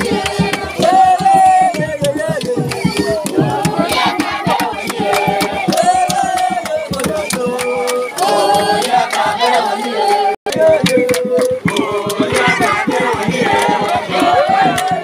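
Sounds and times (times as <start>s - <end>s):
fast steady percussion: 0.0s - 15.0s
group singing held notes: 0.0s - 15.0s.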